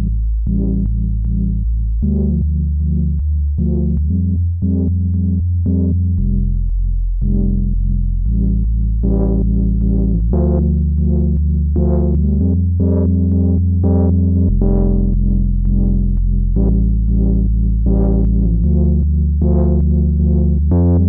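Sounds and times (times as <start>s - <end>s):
sustained synth bass: 0.0s - 21.0s.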